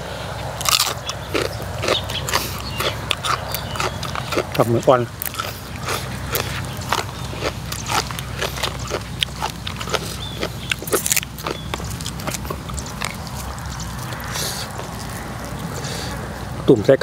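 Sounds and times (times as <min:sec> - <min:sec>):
chewing with wet smacks: 0:00.6 - 0:16.5.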